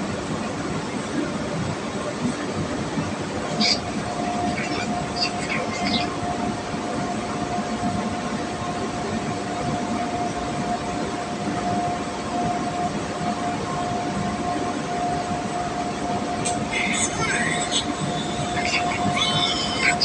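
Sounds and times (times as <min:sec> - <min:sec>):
constant whine: 0:00.0 - 0:20.0
mechanical drone: 0:00.0 - 0:20.0.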